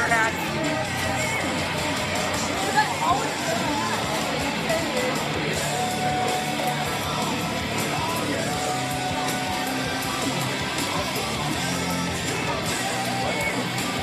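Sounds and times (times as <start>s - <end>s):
rock music over pa system: 0.0s - 14.0s.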